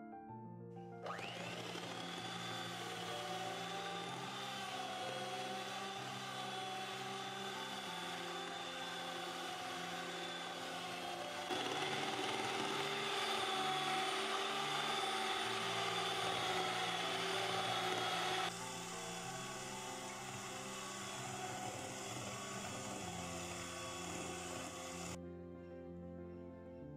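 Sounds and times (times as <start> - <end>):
electric hand mixer whining: 1.0 - 25.2.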